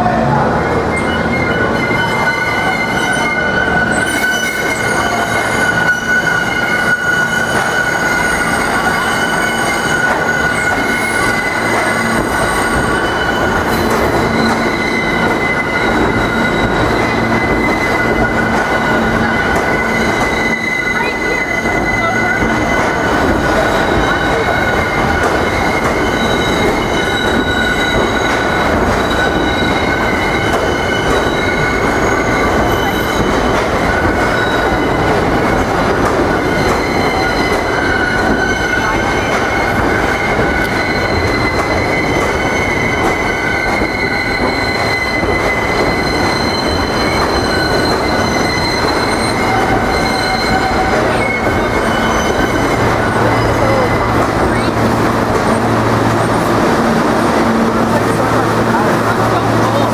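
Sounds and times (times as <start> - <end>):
steel wheels squealing on rails: 0.0 - 59.9
subway train rumbling past: 0.0 - 59.9.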